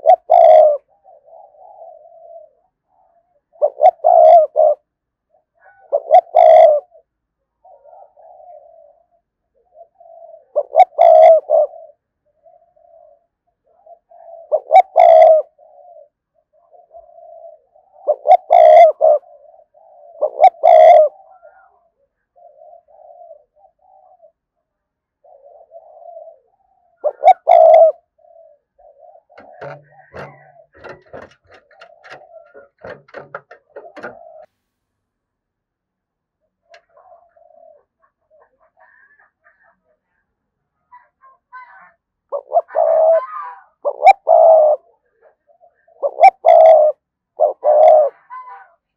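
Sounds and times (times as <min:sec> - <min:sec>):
dove cooing: 0:00.0 - 0:34.5, 0:36.6 - 0:40.0, 0:40.9 - 0:48.8.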